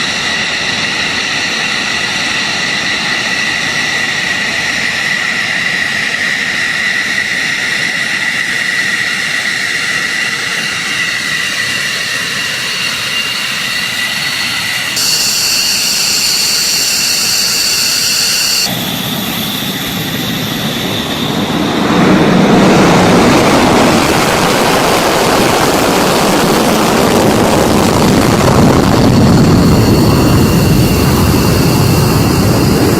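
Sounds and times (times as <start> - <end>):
jet engine roar: 0.0 - 32.9
jet turbine whine: 0.0 - 32.9.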